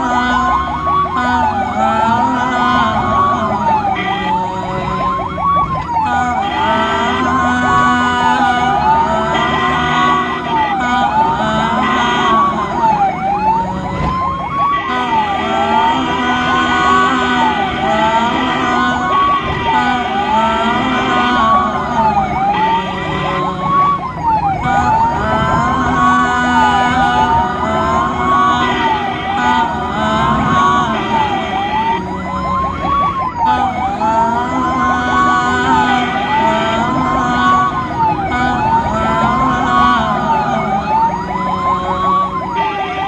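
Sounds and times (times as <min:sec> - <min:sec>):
ambulance siren wailing: 0:00.0 - 0:43.0
fast yelping siren: 0:00.0 - 0:43.0
road and engine noise: 0:00.0 - 0:43.0.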